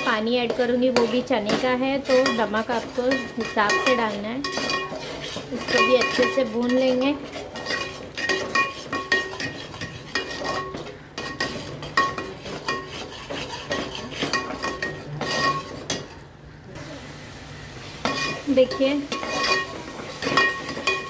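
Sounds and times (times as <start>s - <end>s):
metal spoon scraping a pot: 0.0s - 16.3s, 18.0s - 21.0s.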